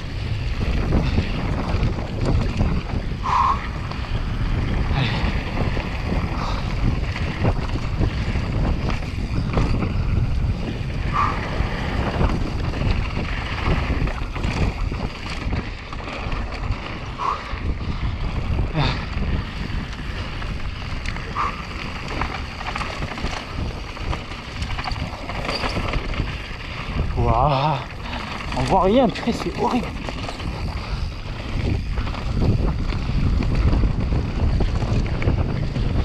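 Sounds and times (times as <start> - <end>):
bike knocking and rattling: 0.0 - 36.0
tyres rumbling on dirt trail: 0.0 - 36.0
wind rushing over microphone: 0.0 - 36.0.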